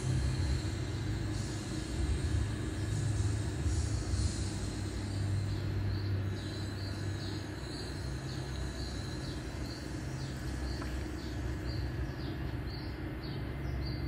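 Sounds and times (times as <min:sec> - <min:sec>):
low background hum: 0:00.0 - 0:14.0
bird chirping: 0:02.2 - 0:14.0.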